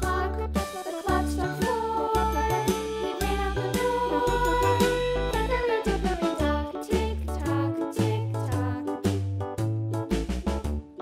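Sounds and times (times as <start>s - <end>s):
children's music: 0.0s - 11.0s.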